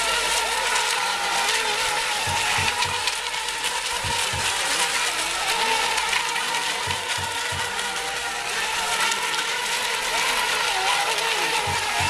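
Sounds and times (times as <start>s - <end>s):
electric boat motors whining: 0.0s - 12.0s.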